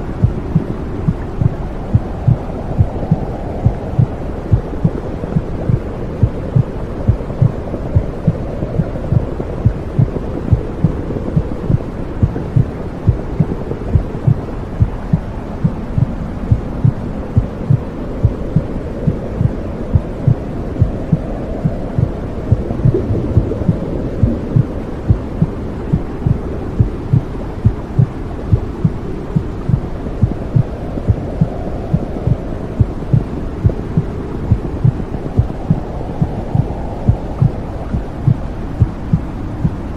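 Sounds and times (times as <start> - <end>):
low whooshing noise: 0.0 - 39.9
heartbeat thumps: 0.1 - 39.8.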